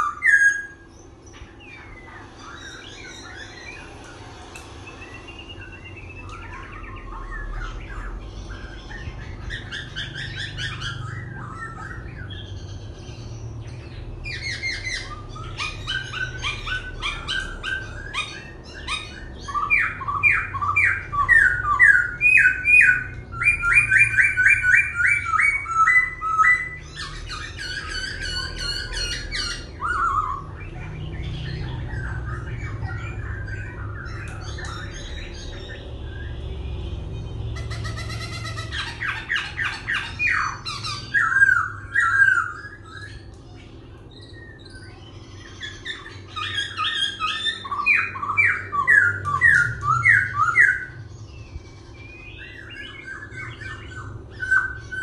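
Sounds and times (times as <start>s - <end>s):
laughingthrush singing: 0.0s - 55.0s.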